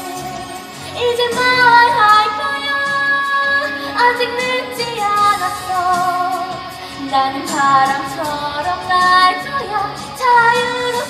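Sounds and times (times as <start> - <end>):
backing track music: 0.0 - 11.0
woman singing: 0.0 - 11.0.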